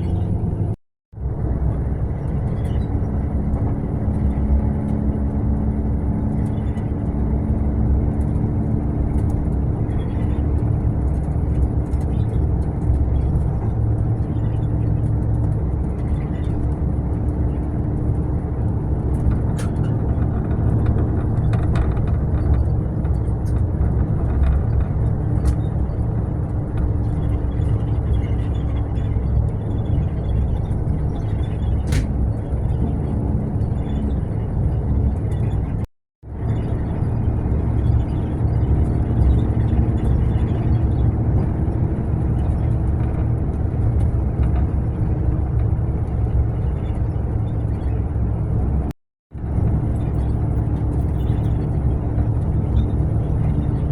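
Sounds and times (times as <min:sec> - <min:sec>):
coach engine and road rumble: 0:00.0 - 0:53.9.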